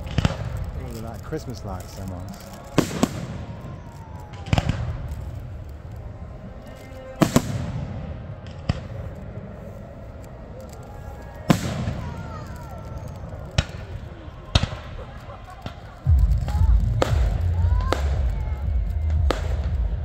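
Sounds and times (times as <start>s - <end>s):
firework shells bursting: 0.0s - 20.0s
low rumbling echo: 0.0s - 20.0s.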